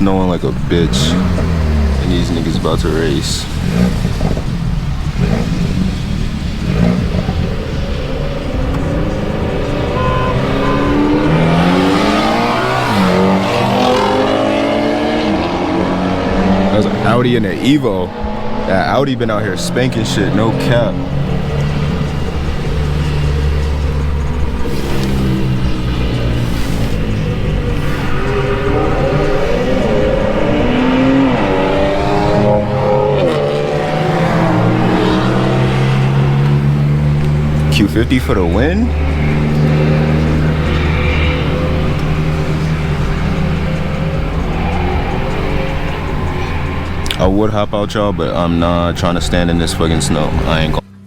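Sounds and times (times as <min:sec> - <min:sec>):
car engines revving hard: 0:00.0 - 0:51.0.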